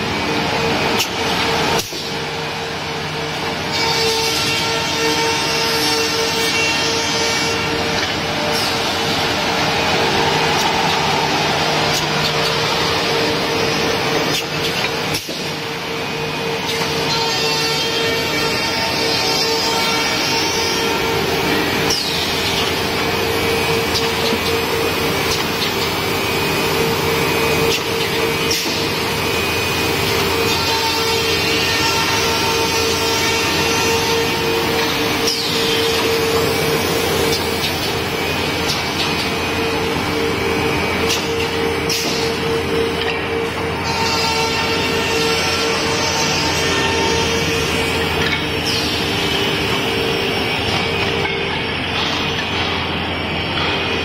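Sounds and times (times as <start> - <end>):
woodworking machine humming: 0.0 - 54.0.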